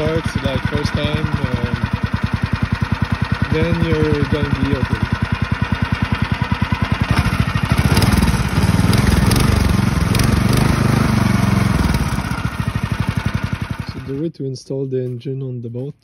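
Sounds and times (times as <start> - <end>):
small gas engine idling and revving: 0.0 - 14.3.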